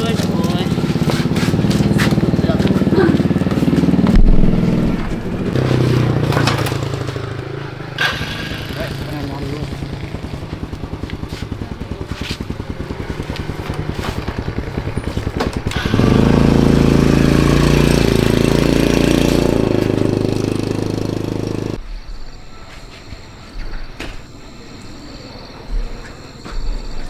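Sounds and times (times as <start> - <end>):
small motorcycle engine running: 0.0 - 21.8.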